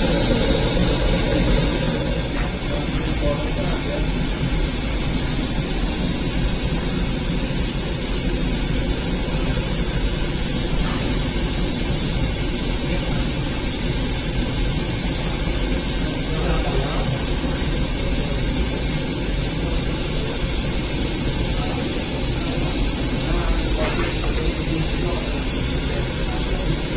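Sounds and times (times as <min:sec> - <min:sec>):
gas burner rushing: 0:00.0 - 0:26.9.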